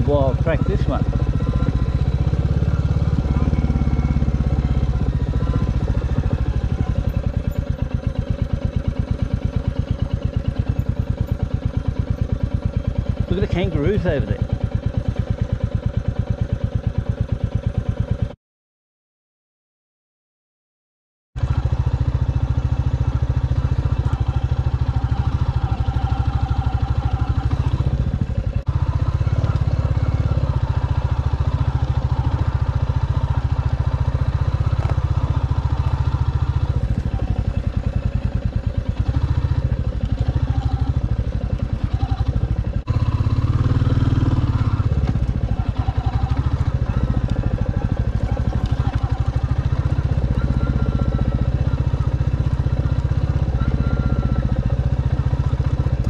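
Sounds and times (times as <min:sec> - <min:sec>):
motorcycle engine running: 0:00.0 - 0:18.4, 0:21.4 - 0:56.0.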